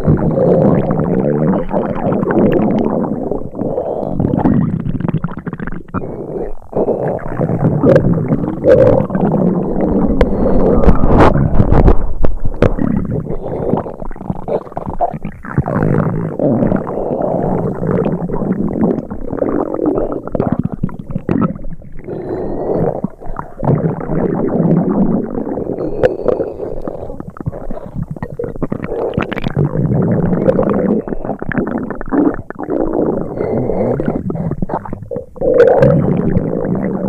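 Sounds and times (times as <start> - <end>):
stomach gurgling and churning: 0.0 - 37.0.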